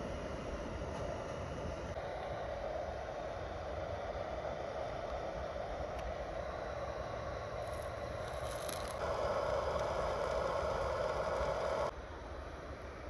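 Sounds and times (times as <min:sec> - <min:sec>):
camp stove hissing: 0:00.0 - 0:11.9.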